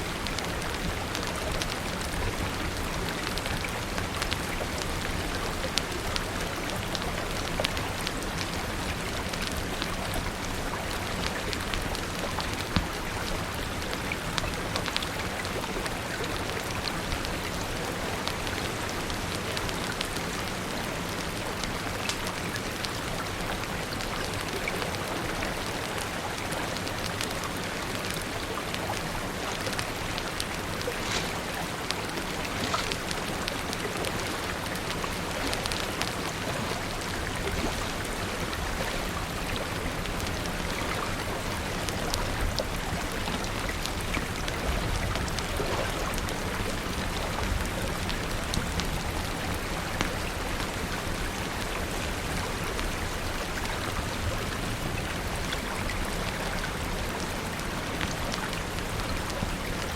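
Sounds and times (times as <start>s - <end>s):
fire crackling: 0.0s - 59.9s
steady rain: 0.0s - 59.9s.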